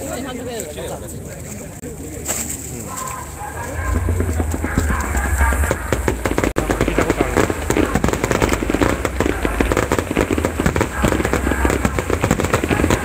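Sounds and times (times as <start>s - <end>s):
fireworks bangs and crackle: 2.5s - 13.0s.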